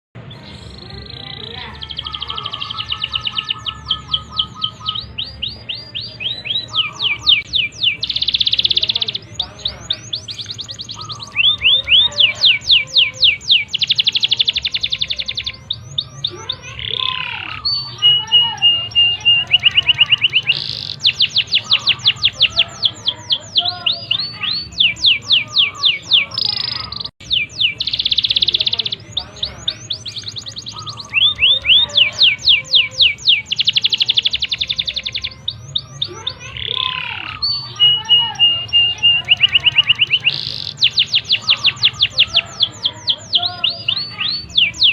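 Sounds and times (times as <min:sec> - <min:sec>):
canary singing trills: 0:00.2 - 0:44.9.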